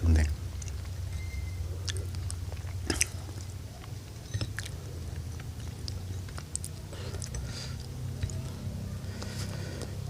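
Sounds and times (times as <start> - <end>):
steady low hum: 0.0 - 10.0
chewing: 0.5 - 10.0.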